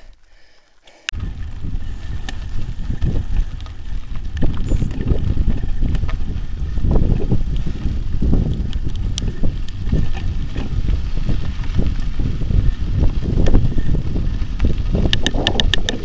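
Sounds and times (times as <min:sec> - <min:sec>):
bike clicks and rattles: 0:00.0 - 0:16.0
wind on microphone: 0:01.1 - 0:16.0
tyres rumbling on gravel: 0:01.2 - 0:16.0.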